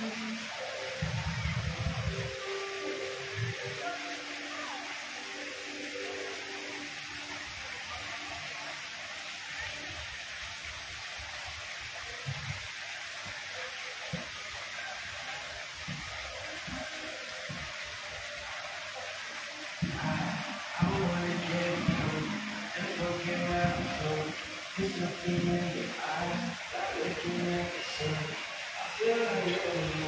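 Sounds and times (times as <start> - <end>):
water fountain jets hissing: 0.0 - 30.0.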